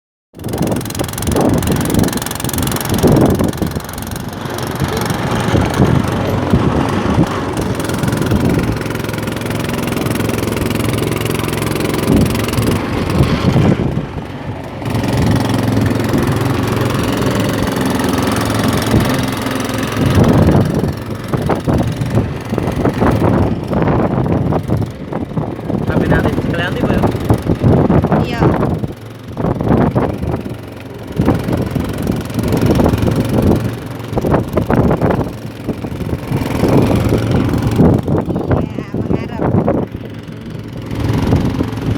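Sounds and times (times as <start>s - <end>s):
boat engine running: 0.3s - 41.9s.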